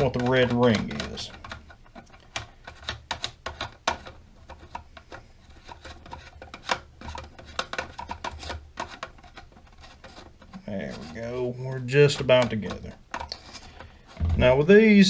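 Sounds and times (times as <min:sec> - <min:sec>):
plastic threads clicking and rubbing: 0:00.0 - 0:14.6.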